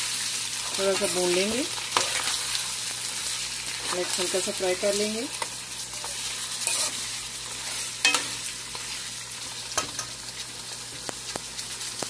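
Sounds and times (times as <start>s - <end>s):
meat and onions sizzling in oil: 0.0s - 12.0s
steel spoon stirring in pan: 0.2s - 10.1s.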